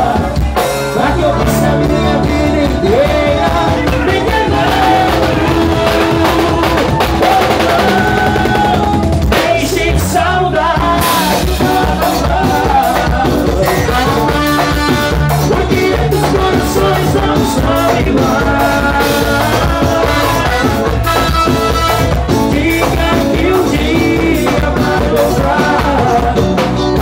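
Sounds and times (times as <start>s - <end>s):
live band playing dance music: 0.0s - 27.0s
man singing into microphone: 0.0s - 27.0s.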